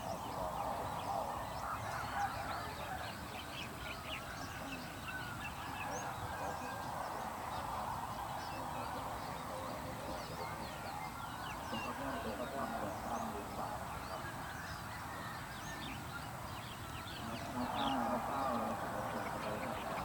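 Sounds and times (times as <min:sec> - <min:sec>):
chorus of birds chattering: 0:00.0 - 0:20.0.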